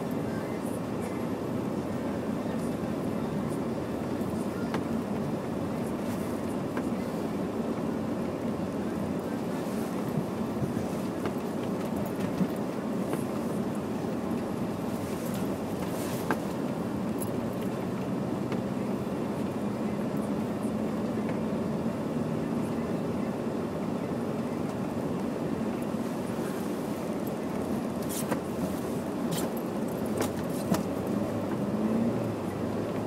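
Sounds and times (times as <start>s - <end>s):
car engine and tyre drone: 0.0s - 33.0s.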